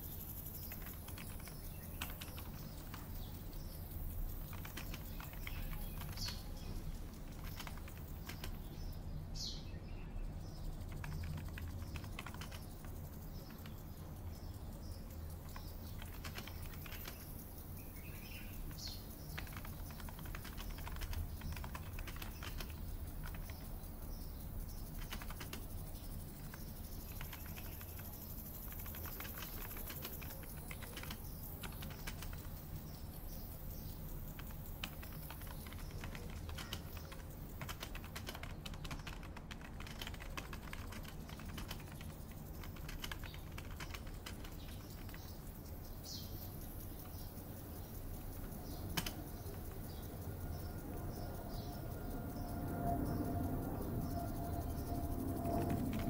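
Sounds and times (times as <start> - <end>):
keyboard typing: 0.0 - 9.0, 10.4 - 51.7, 54.0 - 56.0
bird chirps: 0.0 - 56.0
steady low hum: 0.0 - 56.0.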